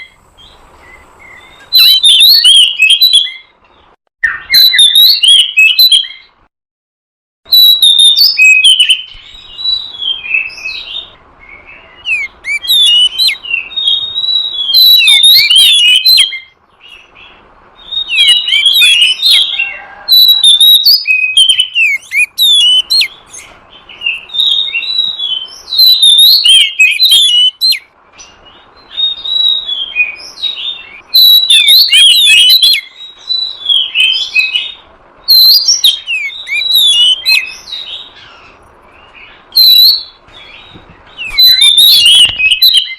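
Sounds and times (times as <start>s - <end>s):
bird song whistled phrases: 0.0s - 3.6s, 4.2s - 6.4s, 7.5s - 42.9s.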